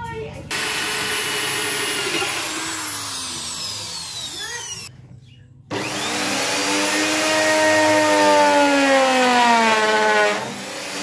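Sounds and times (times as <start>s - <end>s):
electric drill winding down: 0.5s - 4.9s, 5.7s - 11.0s
electric router whine: 0.5s - 4.9s, 5.7s - 11.0s.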